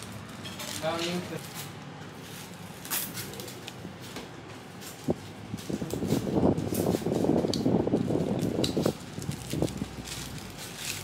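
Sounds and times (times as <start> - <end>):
plastic bag rustling: 0.0 - 11.0.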